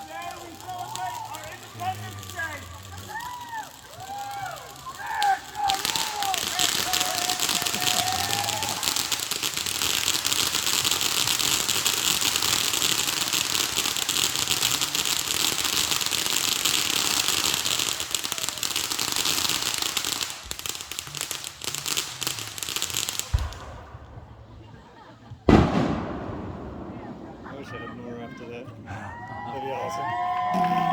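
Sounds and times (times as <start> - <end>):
fireworks crackling: 0.0 - 30.9.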